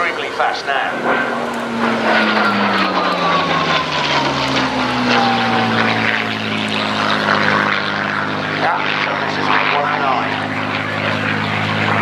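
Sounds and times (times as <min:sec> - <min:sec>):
propeller plane engine diving pass: 0:00.0 - 0:12.0.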